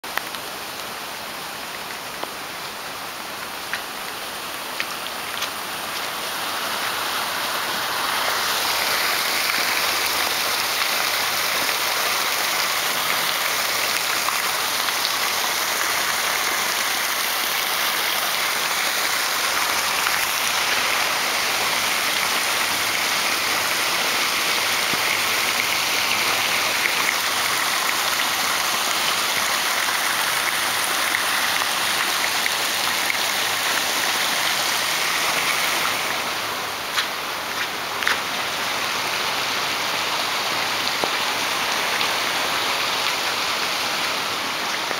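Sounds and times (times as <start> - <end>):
heavy rain on hard ground: 0.0 - 44.9
running water: 0.0 - 44.9.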